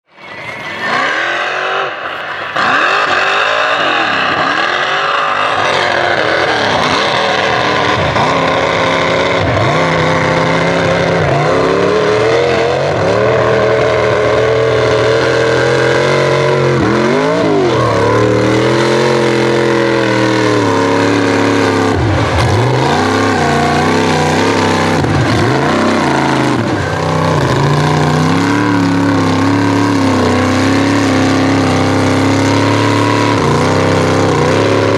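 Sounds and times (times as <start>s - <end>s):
truck engine revving: 0.0s - 34.9s.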